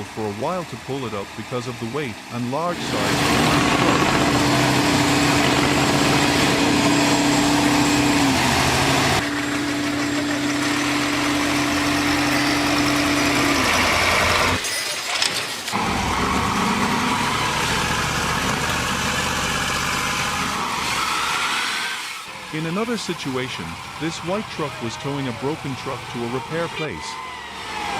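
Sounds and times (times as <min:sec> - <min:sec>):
heavy truck engines running: 0:00.0 - 0:27.9.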